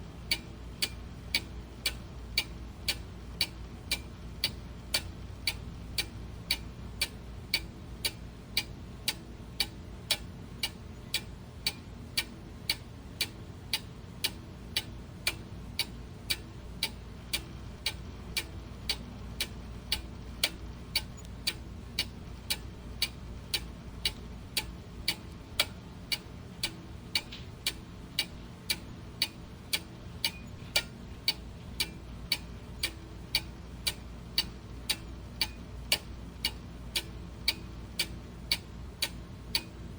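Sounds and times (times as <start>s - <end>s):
clock ticking: 0.3s - 39.9s.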